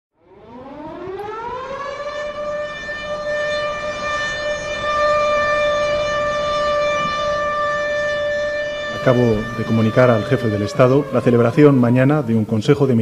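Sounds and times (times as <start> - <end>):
civil defence siren winding up: 0.2 - 13.0.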